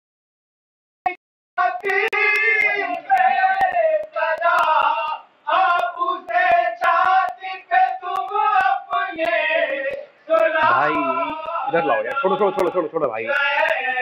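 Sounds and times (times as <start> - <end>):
man chanting a lament: 1.7 - 14.0.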